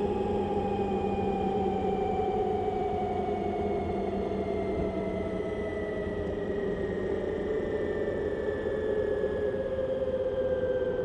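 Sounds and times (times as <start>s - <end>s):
electric scooter motor whine: 0.0s - 11.0s.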